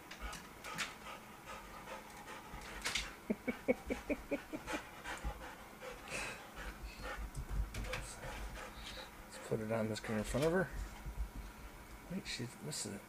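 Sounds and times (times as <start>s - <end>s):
dog panting: 0.0s - 11.4s.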